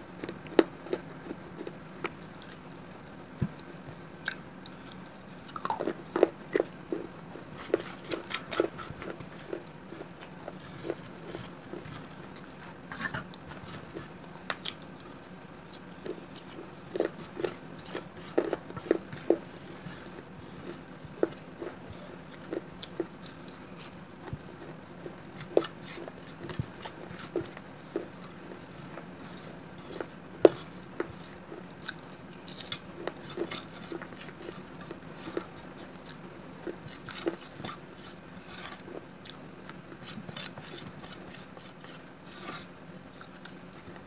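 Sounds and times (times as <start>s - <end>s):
crunchy chewing: 0.1s - 44.0s.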